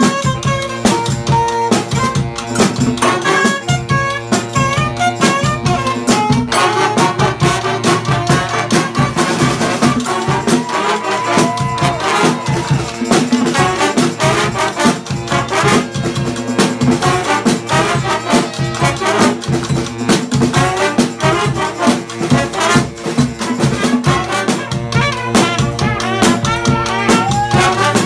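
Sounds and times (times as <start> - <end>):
brass band playing: 0.0 - 28.0
snare and bass drums beat: 0.0 - 28.0.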